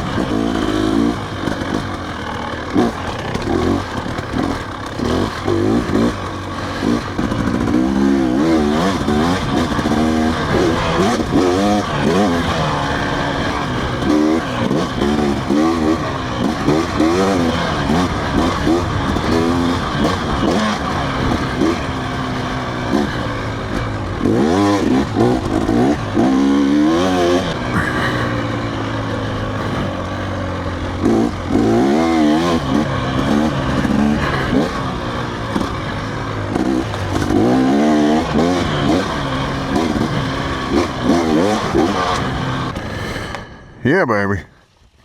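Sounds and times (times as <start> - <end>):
motorcycle engine revving: 0.0 - 43.7.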